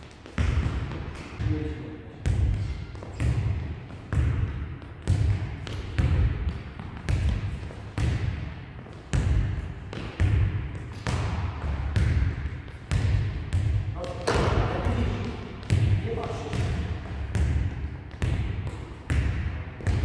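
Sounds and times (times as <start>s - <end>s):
ball bouncing on wooden floor: 2.2s - 20.0s.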